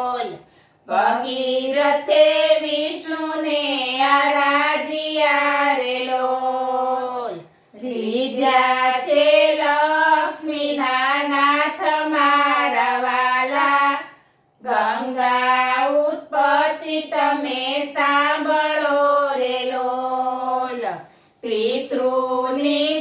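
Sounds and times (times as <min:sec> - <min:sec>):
women singing unaccompanied: 0:00.0 - 0:23.0.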